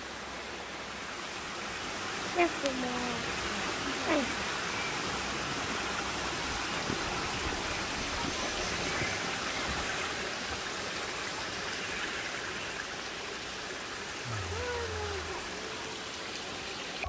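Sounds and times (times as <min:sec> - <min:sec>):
brook water rushing over rocks: 0:00.0 - 0:17.0.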